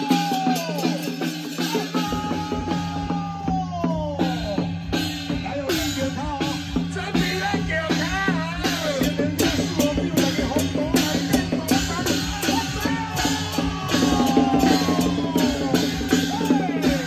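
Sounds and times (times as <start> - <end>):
bass drum: 0.0 - 17.0
quick even drum beat: 0.0 - 17.0.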